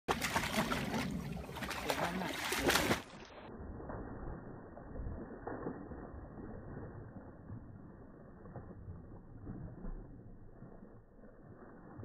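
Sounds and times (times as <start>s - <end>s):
dogs splashing in water: 0.1s - 12.0s.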